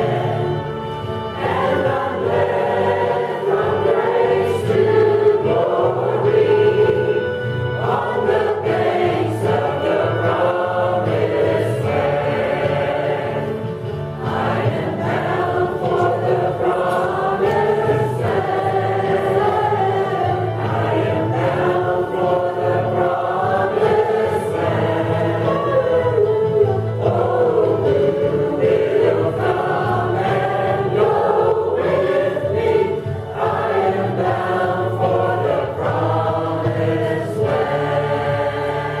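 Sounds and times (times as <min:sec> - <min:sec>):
group singing a hymn: 0:00.0 - 0:39.0.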